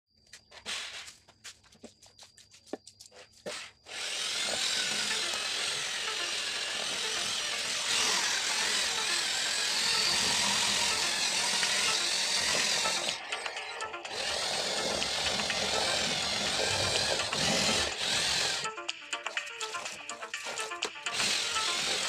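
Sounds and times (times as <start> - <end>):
electric drill running: 3.9 - 22.0.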